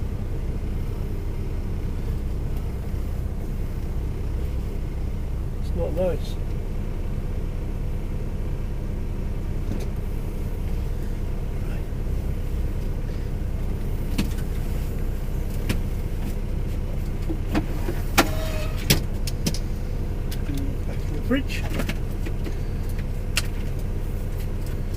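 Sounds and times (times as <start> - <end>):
low hum inside lorry cab: 0.0 - 24.9.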